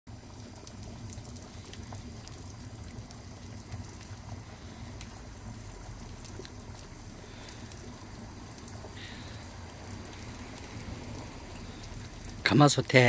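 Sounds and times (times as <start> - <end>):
broth boiling: 0.1 - 13.0
wood fire popping and crackling: 0.1 - 13.0.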